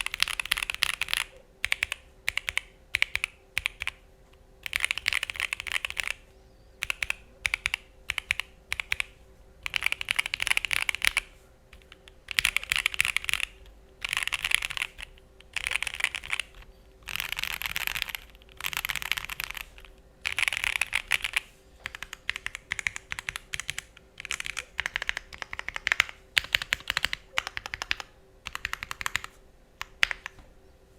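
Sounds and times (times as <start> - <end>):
mechanical keyboard typing: 0.0 - 4.0, 4.6 - 6.2, 6.8 - 30.4.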